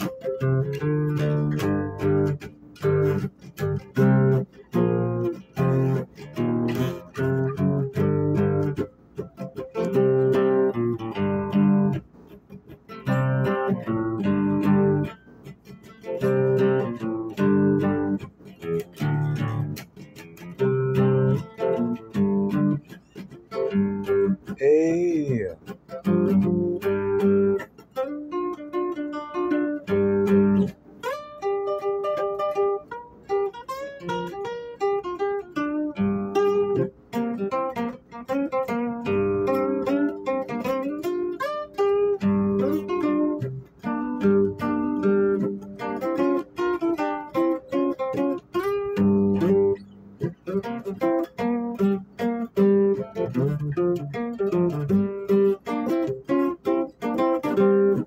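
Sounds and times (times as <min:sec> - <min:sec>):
guitar melody: 0:00.0 - 0:58.0.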